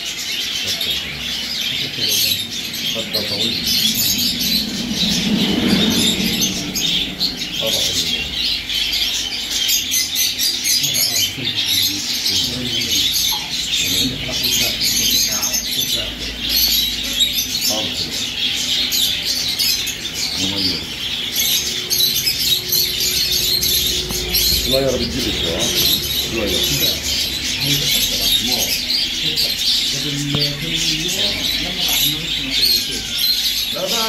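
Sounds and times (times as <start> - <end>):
canaries chirping and singing: 0.0 - 34.0.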